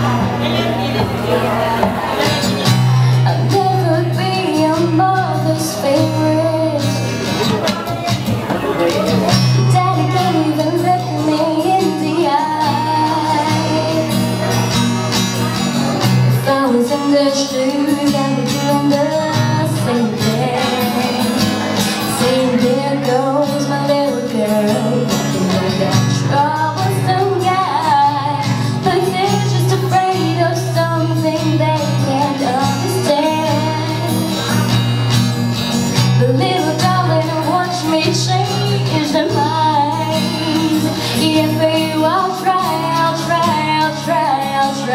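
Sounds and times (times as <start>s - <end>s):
acoustic guitar: 0.0s - 44.9s
woman singing a pop ballad: 3.0s - 7.1s, 9.4s - 14.5s, 16.3s - 34.6s, 36.0s - 44.9s.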